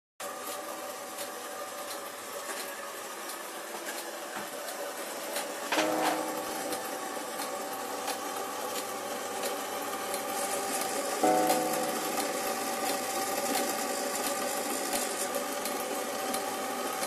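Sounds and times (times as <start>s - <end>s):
clockwork mechanism whirring: 0.2s - 17.0s.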